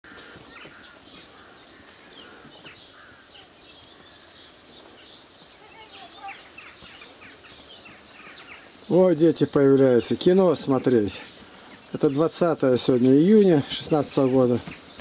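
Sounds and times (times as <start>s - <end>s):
birds chirping: 0.0s - 15.0s
faint outdoor background: 0.0s - 15.0s.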